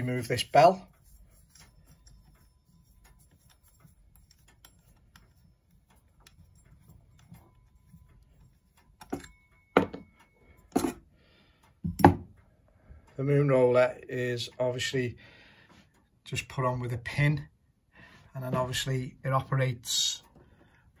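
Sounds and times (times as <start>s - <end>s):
faint clicking and rubbing: 0.0s - 17.3s.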